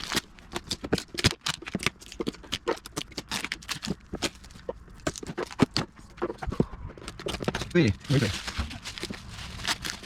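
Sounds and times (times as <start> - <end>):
packaging rustling and clicking: 0.0 - 10.0.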